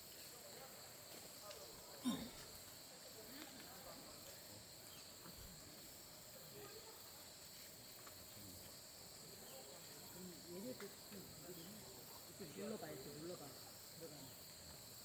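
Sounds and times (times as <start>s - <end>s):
faint voices: 0.0s - 14.9s
insects trilling: 0.0s - 15.0s.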